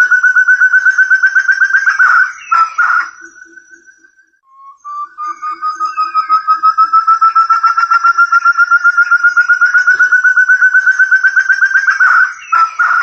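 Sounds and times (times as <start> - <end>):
partridge whistled calling: 0.0 - 13.0.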